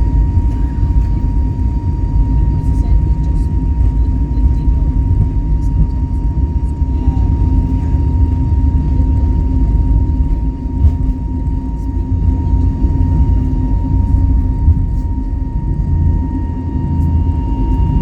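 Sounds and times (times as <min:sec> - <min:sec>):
jet engine rumble in cabin: 0:00.0 - 0:18.0.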